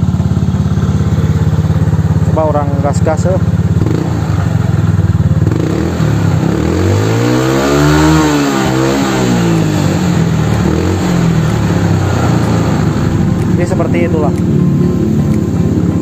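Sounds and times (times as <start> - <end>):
scooter engine idling and revving: 0.0 - 16.0.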